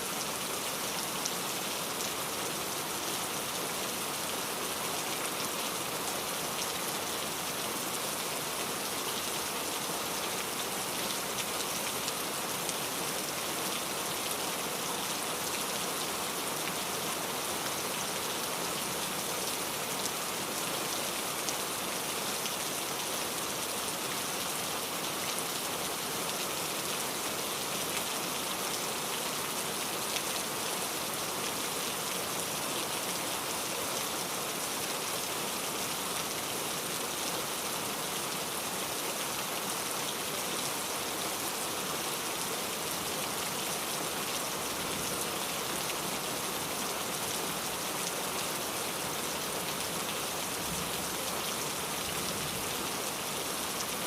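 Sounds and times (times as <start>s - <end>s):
rain pattering on surface: 4.4s - 54.0s.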